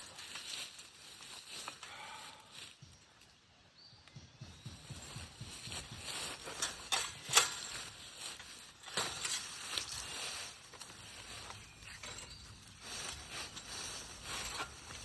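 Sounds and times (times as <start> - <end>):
rustling in dry leaves: 0.0 - 3.2, 4.8 - 15.0.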